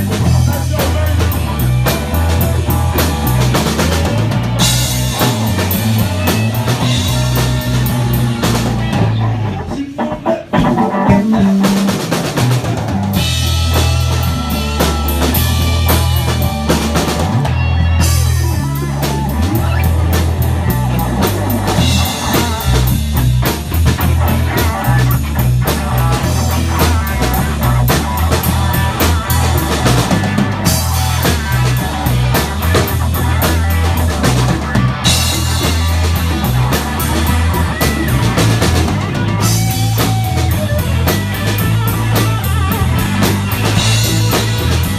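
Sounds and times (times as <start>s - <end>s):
driving bass line: 0.0s - 44.9s
drum kit: 0.0s - 44.9s
electric guitar: 0.0s - 44.9s.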